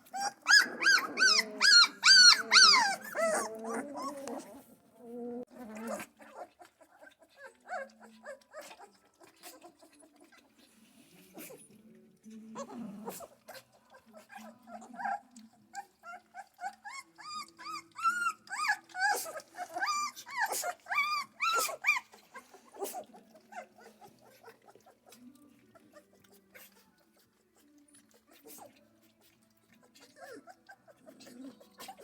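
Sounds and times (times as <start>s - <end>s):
puppies whining and crying: 0.0s - 10.6s, 12.6s - 32.0s.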